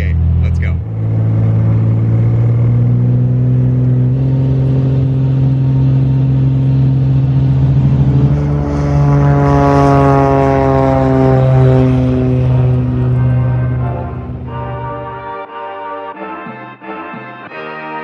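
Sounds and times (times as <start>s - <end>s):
plane passing by: 0.0s - 18.0s
propeller plane engine running: 0.0s - 18.0s.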